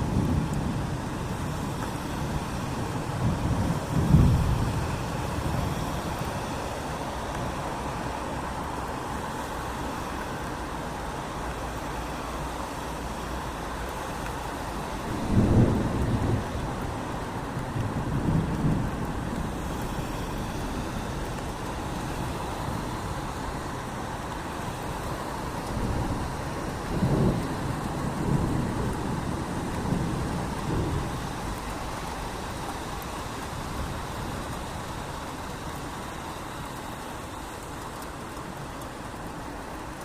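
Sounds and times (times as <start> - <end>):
steady rain on a street: 0.0 - 40.0.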